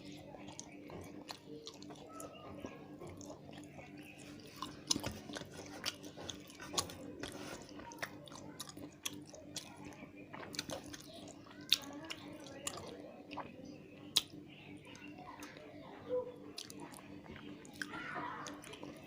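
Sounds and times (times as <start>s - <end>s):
person chewing food: 0.0s - 15.6s, 16.5s - 19.0s.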